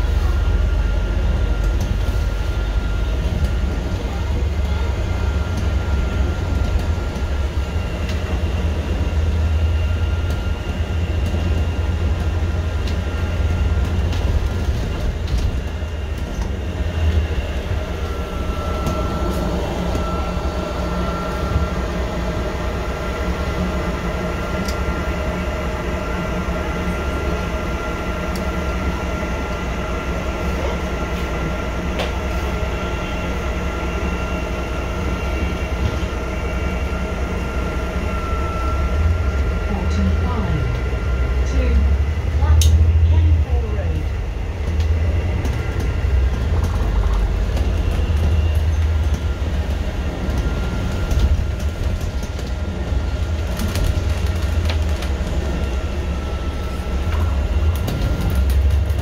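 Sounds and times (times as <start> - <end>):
thin steady whine: 0.0 - 53.7, 54.3 - 59.0
bus engine and road rumble: 0.0 - 59.0.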